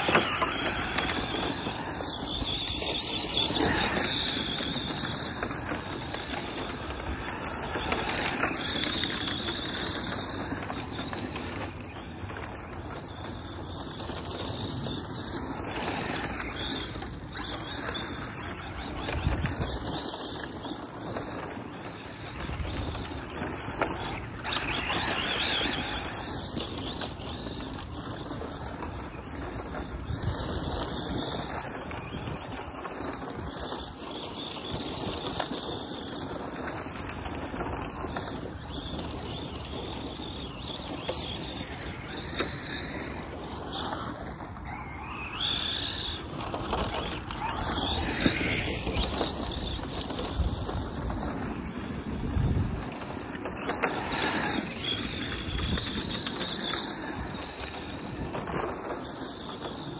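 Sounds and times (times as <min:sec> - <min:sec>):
electric motor whine: 0:00.0 - 0:59.9
radio-controlled truck driving on dirt: 0:00.0 - 0:59.9.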